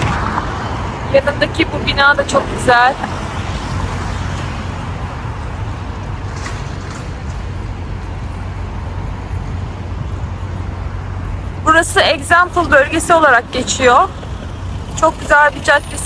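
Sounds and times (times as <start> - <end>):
low traffic hum: 0.0 - 16.0
passing vehicles: 0.0 - 16.0.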